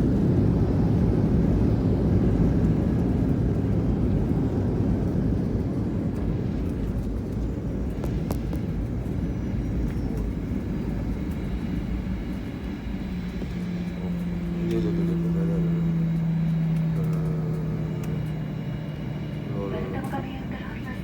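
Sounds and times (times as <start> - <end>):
jet engine cabin rumble: 0.0 - 21.0.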